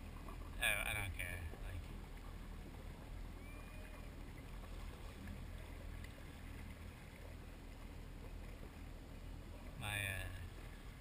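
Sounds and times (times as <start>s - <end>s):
water noise: 0.0s - 11.0s.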